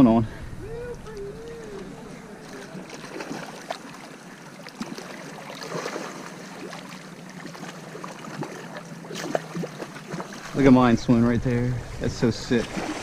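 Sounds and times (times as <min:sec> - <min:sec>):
water lapping at shoreline: 0:00.6 - 0:13.0.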